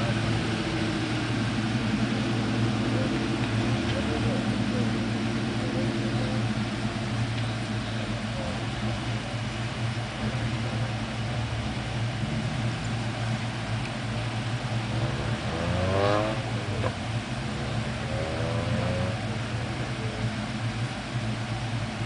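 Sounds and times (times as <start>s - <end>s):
car engine revving: 0.0s - 22.0s
car engines idling: 0.0s - 22.0s.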